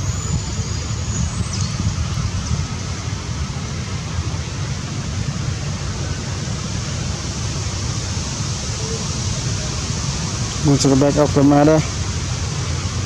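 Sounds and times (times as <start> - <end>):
constant hiss: 0.0 - 13.0
wind rumbling on microphone: 0.0 - 13.0.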